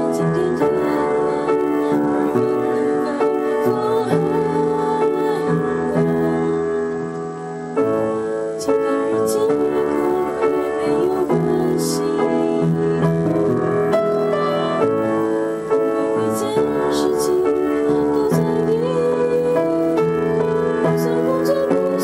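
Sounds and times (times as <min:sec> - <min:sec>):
piano playing chords and melody: 0:00.0 - 0:22.0.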